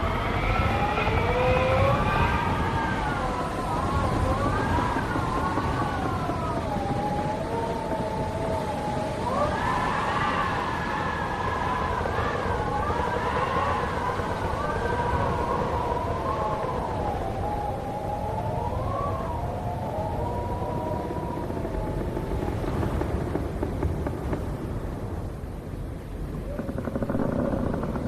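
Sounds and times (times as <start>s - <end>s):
howling wind: 0.0s - 28.0s
low rumble of gusts: 0.0s - 28.0s.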